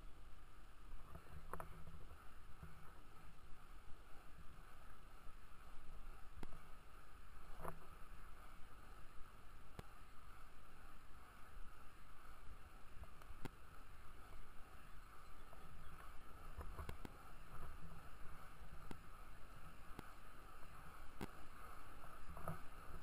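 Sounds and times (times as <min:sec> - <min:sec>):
skate wheels rolling on asphalt: 0:00.9 - 0:23.0.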